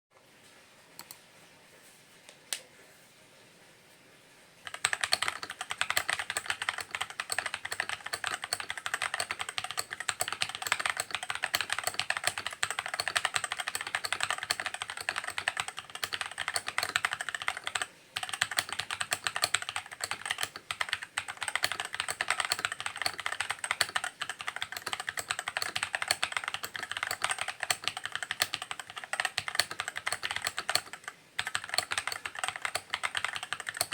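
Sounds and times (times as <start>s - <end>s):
mechanical keyboard typing: 4.6s - 33.9s.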